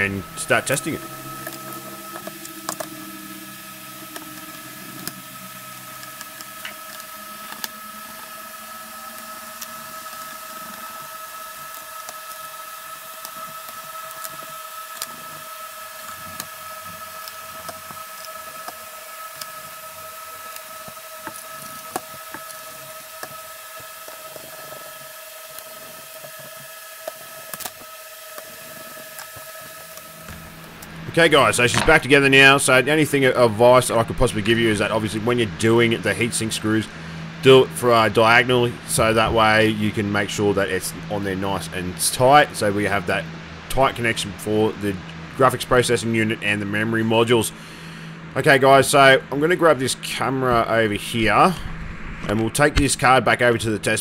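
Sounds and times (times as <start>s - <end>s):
constant high hum: 0.0s - 54.0s
steady hiss: 0.0s - 54.0s.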